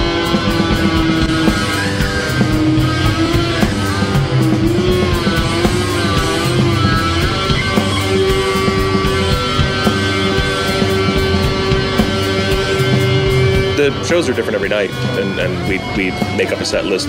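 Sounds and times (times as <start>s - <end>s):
electric guitar bending notes: 0.0s - 17.0s
instrumental rock music: 0.0s - 17.0s.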